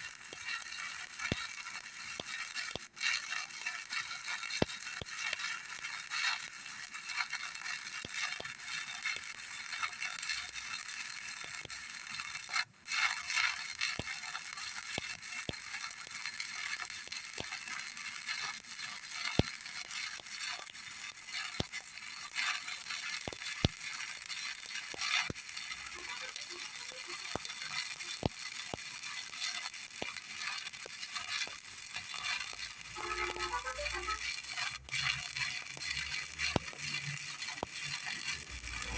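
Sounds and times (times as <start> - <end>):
welding arc crackling: 0.0 - 38.9.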